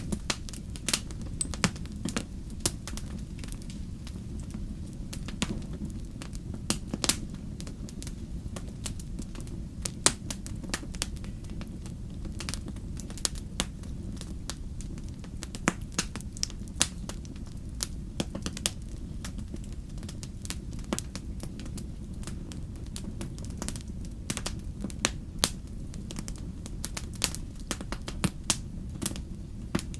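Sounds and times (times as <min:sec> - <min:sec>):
low rumble of flames: 0:00.0 - 0:29.9
wood fire pops and snaps: 0:00.0 - 0:29.9.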